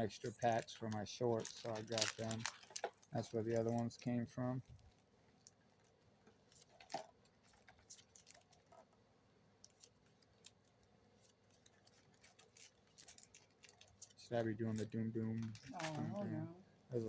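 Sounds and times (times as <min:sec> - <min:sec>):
cards and packs crinkling: 0:00.0 - 0:08.8, 0:09.6 - 0:16.3.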